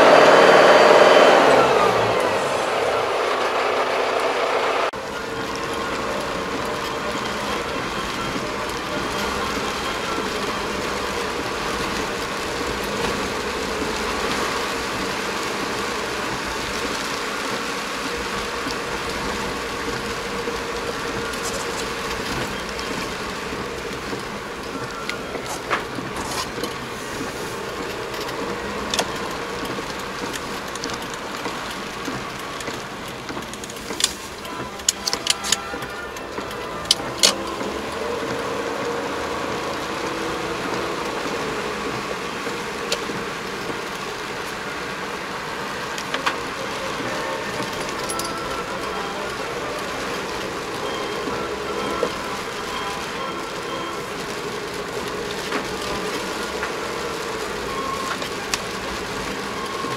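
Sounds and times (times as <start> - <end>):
rain: 0.0 - 59.9
tyres on wet road: 0.0 - 59.9.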